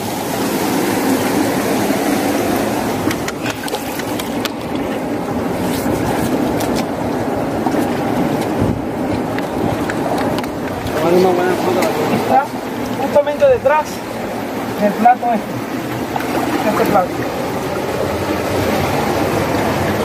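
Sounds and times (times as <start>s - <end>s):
river water rushing through rapids: 0.0s - 20.0s.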